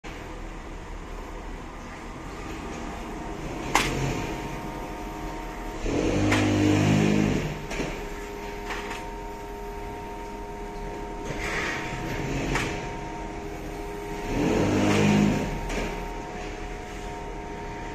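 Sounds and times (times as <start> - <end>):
truck engine: 0.1 - 17.9
crane hydraulics whining: 1.2 - 17.9.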